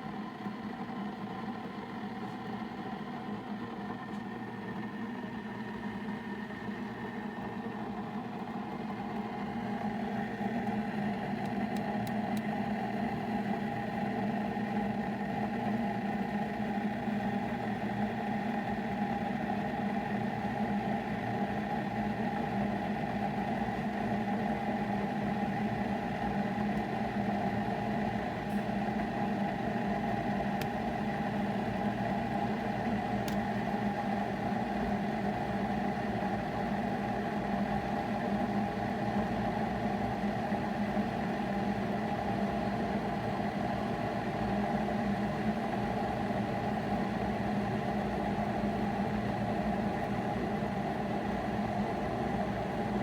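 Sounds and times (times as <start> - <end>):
coffee maker humming: 0.0 - 53.0.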